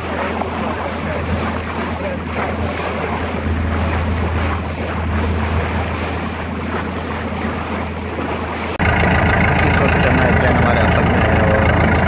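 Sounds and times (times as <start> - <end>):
boat engine drone: 0.0 - 12.0
water rushing along hull: 0.0 - 12.0
wind buffeting microphone: 0.0 - 12.0.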